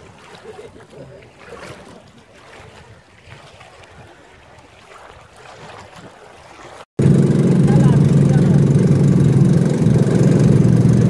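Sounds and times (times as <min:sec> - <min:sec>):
people wading: 0:00.0 - 0:11.0
water lapping around boats: 0:00.0 - 0:11.0.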